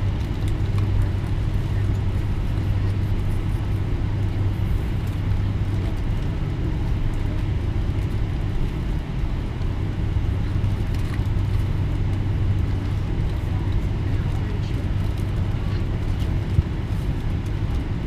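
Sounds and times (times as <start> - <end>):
airliner engine drone: 0.0 - 18.0.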